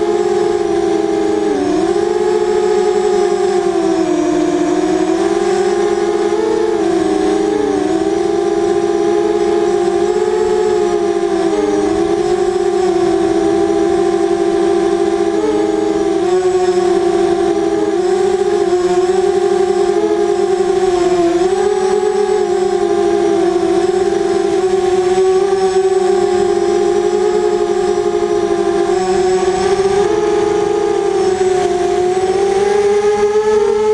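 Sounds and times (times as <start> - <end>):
drone motors buzzing whine: 0.0 - 33.9.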